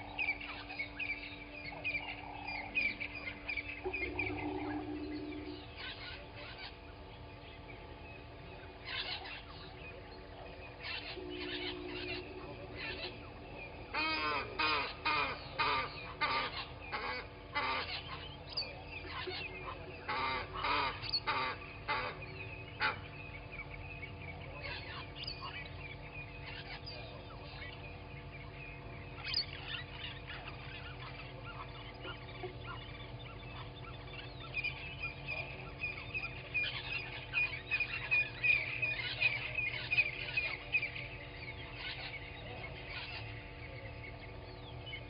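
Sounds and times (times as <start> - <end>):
faint steady hum: 0.0 - 45.0
wild birds calling: 0.0 - 45.0.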